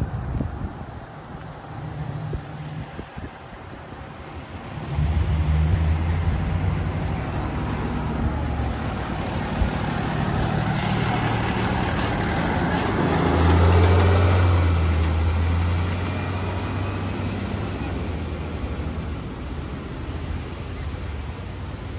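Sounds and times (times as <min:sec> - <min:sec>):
fire engine diesel rumble passing: 0:00.0 - 0:21.9.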